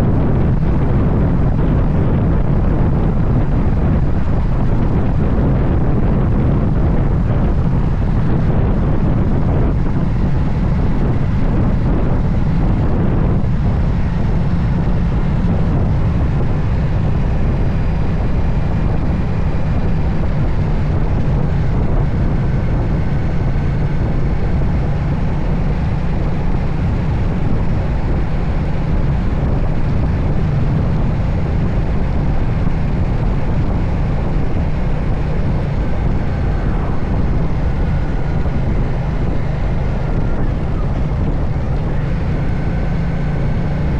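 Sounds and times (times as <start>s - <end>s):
engine and road drone: 0.0s - 43.9s
wind rush over microphone: 0.0s - 43.9s.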